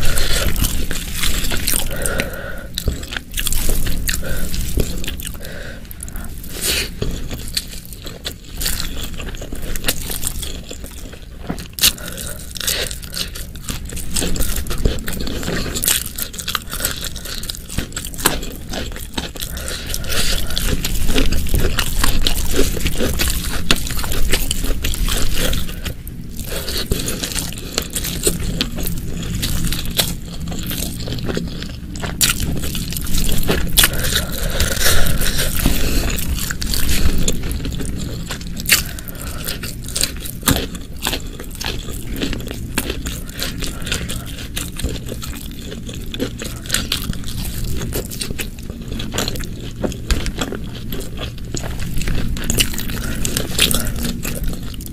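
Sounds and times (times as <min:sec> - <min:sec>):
chewing and biting food: 0:00.0 - 0:54.9.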